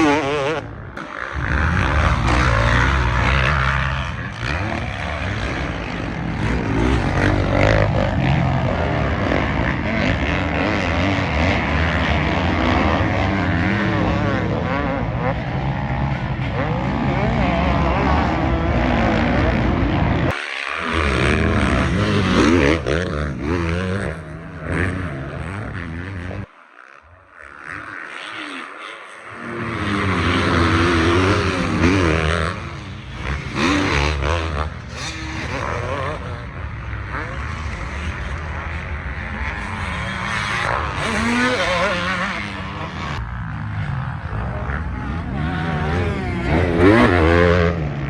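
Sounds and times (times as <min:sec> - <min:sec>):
motocross engines revving: 0:00.0 - 0:26.6, 0:27.2 - 0:48.0.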